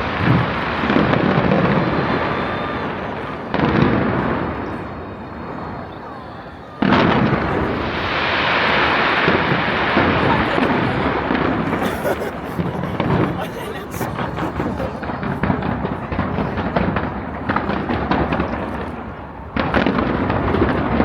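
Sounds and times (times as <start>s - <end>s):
crowd voices: 0.0s - 21.0s
fireworks bursts: 0.0s - 21.0s
fireworks crackling: 0.0s - 21.0s.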